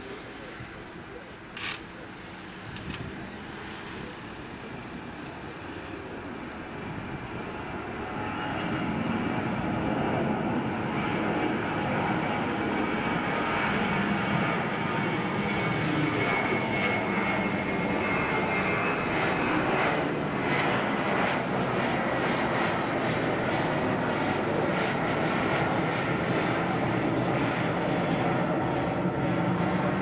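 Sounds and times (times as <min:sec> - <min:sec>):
jet engines: 0:00.0 - 0:30.0.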